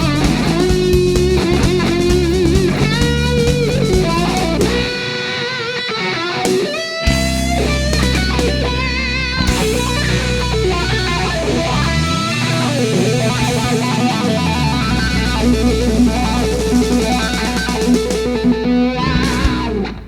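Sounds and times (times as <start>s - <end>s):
loud electric guitar music: 0.0s - 20.0s.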